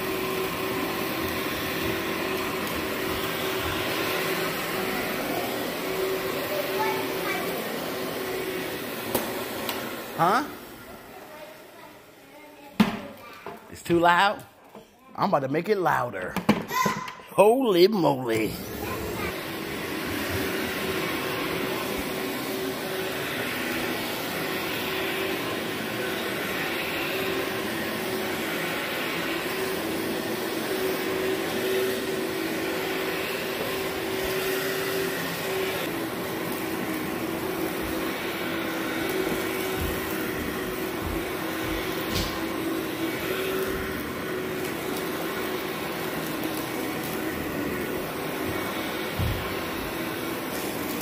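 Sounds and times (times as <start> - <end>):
upright vacuum cleaner running: 0.0 - 14.4, 15.2 - 51.0.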